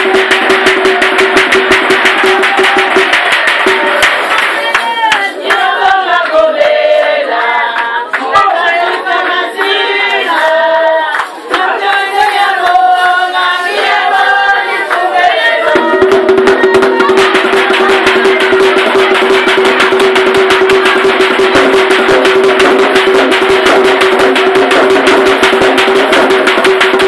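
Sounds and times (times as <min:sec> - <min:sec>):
group singing together: 0:00.0 - 0:27.0
hand clapping beat: 0:00.0 - 0:27.0.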